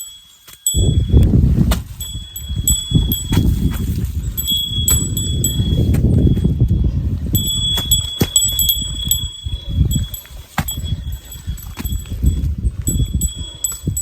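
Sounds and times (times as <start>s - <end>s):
small bell jingling: 0.0s - 1.2s, 1.9s - 14.0s
wind rumble on microphone: 0.7s - 14.0s.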